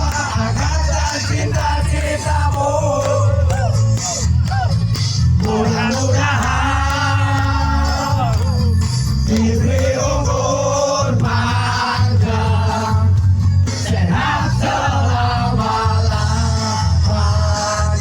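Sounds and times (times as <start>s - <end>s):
heavy pulsing bass beat: 0.0s - 18.0s.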